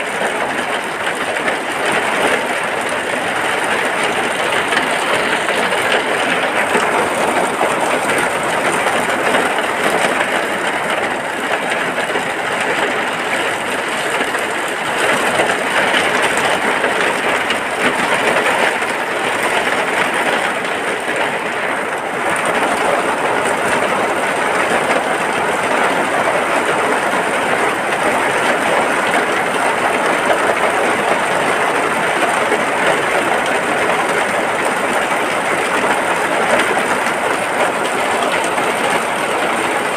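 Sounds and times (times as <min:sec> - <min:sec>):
rain falling on a hut: 0:00.0 - 0:39.9.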